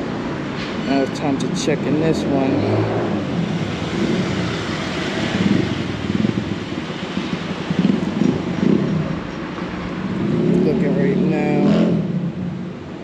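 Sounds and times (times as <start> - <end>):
vehicles passing rumbling: 0.0 - 13.0.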